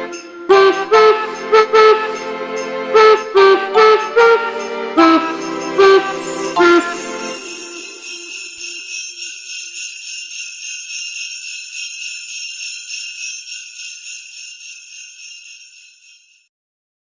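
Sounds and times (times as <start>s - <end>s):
sleigh bells shaken: 0.0s - 2.7s, 4.7s - 16.5s
christmas music: 0.0s - 16.4s.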